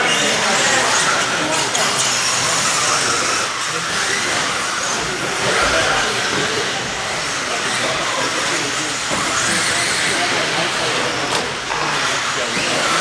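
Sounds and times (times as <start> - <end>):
rc trucks racing: 0.0 - 13.0.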